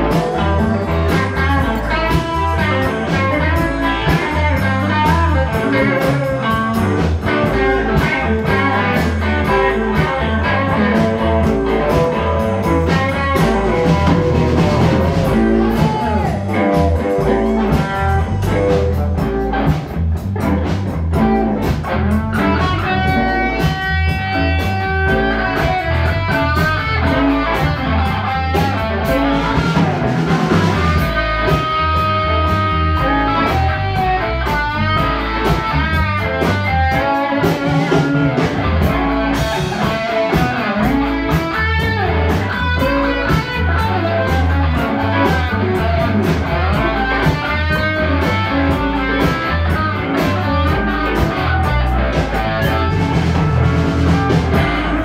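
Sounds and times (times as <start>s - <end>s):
bass guitar: 0.0s - 55.0s
drums: 0.0s - 55.0s
electric guitar lead with bent notes: 0.0s - 55.0s.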